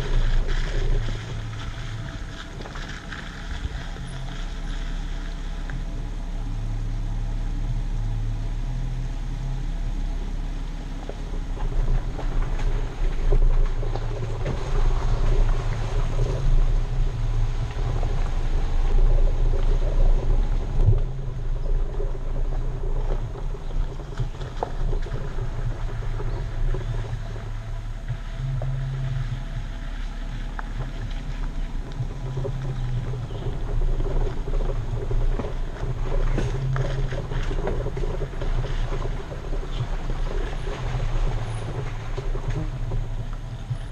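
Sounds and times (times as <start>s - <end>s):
tyres crunching over stones: 0.0s - 6.4s, 10.7s - 43.9s
vehicle engine drone: 0.0s - 43.9s.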